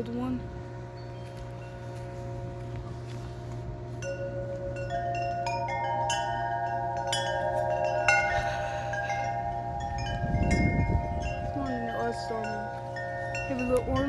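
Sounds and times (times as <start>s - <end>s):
metal wind chimes ringing: 0.0s - 14.0s.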